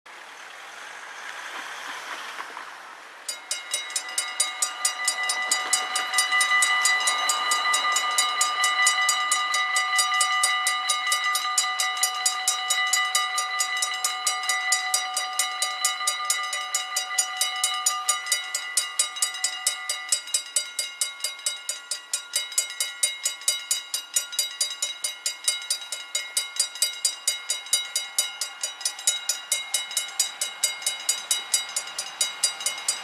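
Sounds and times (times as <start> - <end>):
level crossing bell ringing: 3.3 - 33.0.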